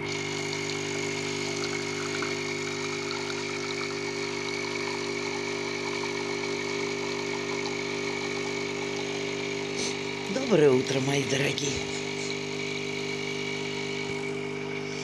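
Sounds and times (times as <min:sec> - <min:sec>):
coffee streaming into mug: 0:00.0 - 0:14.8
espresso machine humming: 0:00.0 - 0:15.0.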